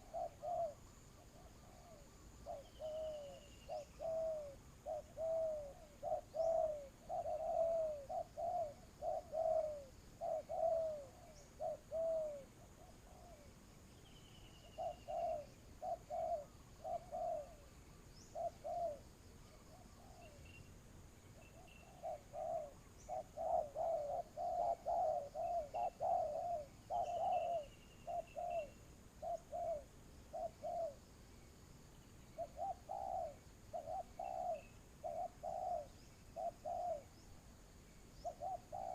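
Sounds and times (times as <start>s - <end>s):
doves cooing: 0.0s - 13.5s, 14.6s - 19.0s, 21.5s - 31.0s, 32.4s - 37.2s, 38.2s - 38.9s
small birds chirping: 0.0s - 38.9s.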